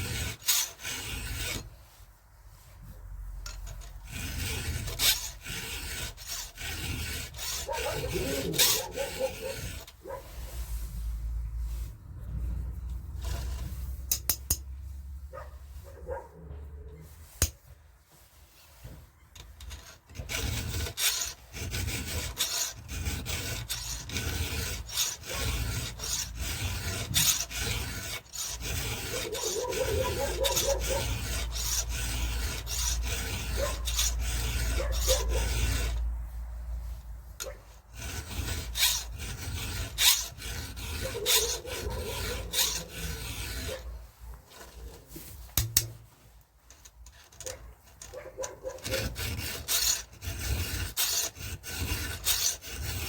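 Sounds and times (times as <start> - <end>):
file rasping on saw chain: 0.0 - 53.0.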